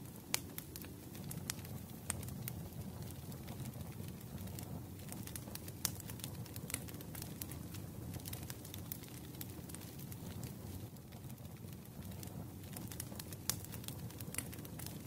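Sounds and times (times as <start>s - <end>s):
wood fire crackling: 0.0s - 15.0s
sharp pops of fire: 0.1s - 10.5s, 11.6s - 15.0s.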